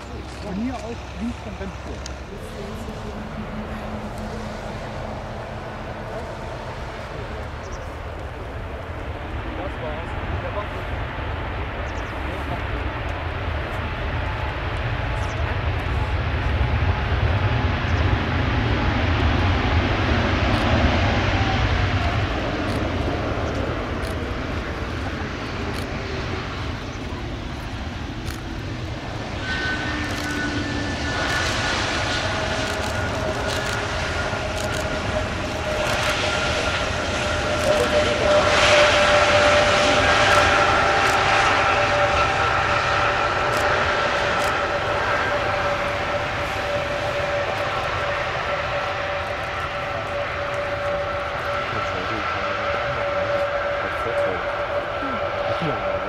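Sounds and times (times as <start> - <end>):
jet engine rush: 0.0 - 56.0
jet engine whine: 0.0 - 56.0.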